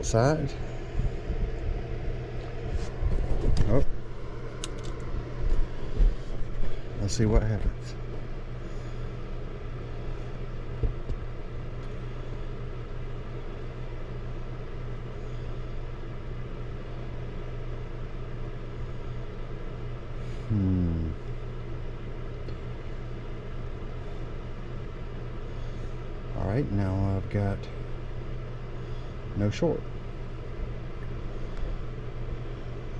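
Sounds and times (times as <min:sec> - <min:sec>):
machinery humming and rumbling: 0:00.0 - 0:32.9.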